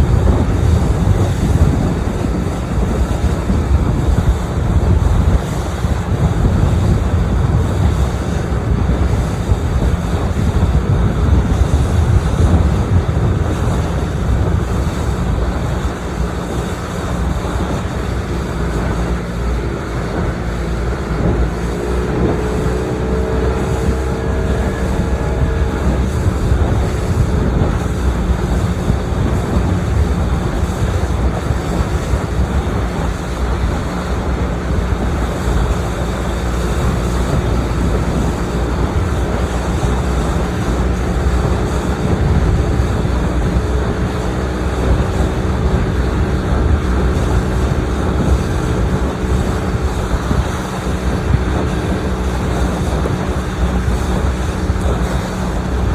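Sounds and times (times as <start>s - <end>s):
boat motor rumble: 0.0s - 55.9s
water rushing past hull: 0.0s - 55.9s
wind buffeting microphone: 0.0s - 55.9s.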